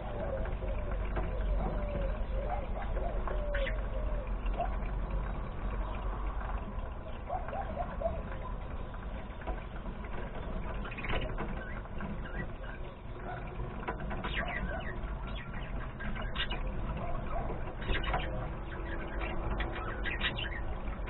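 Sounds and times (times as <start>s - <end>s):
birds warbling: 0.0s - 21.0s.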